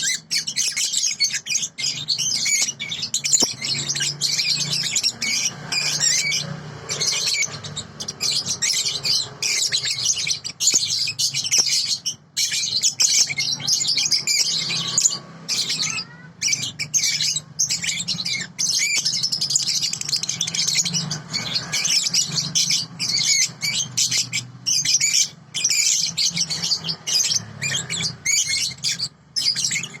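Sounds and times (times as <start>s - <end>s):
songbird chirping and trilling: 0.0s - 30.0s.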